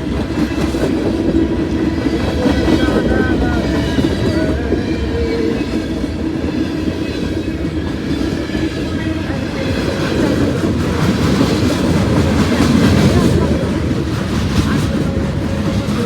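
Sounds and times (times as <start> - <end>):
freight train wheels rumbling on rail: 0.0 - 16.0.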